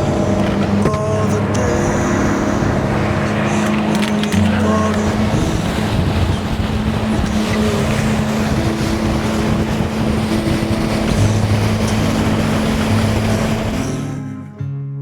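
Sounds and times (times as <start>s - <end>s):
wind noise on microphone: 0.0s - 14.4s
motorboat engine running: 0.0s - 14.6s.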